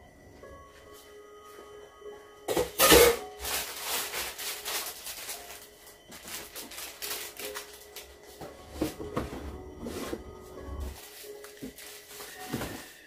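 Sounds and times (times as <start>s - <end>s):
quiet background music: 0.0s - 13.0s
kitchen items clattering: 2.5s - 13.0s.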